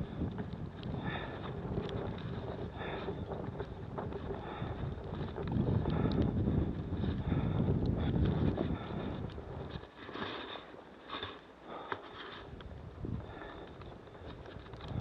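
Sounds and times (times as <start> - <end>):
wind buffeting microphone: 0.0 - 9.9, 12.5 - 15.0.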